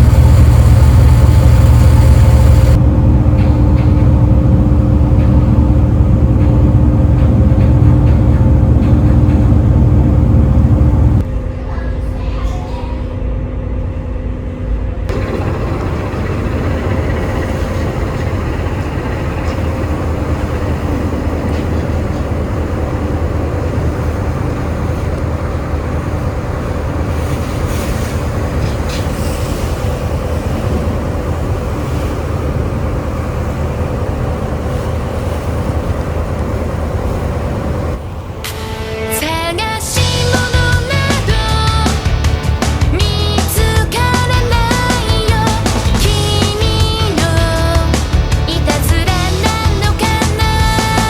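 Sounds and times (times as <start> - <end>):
boat engine rumble: 0.0 - 51.0
constant hum: 0.0 - 51.0.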